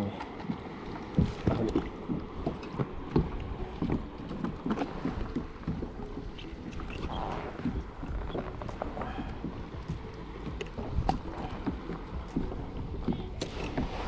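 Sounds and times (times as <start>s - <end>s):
water sounds: 0.0s - 14.0s.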